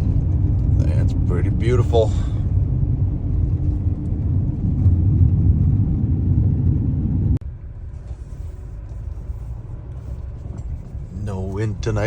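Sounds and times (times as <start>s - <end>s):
diesel machinery rumbling: 0.0s - 12.0s.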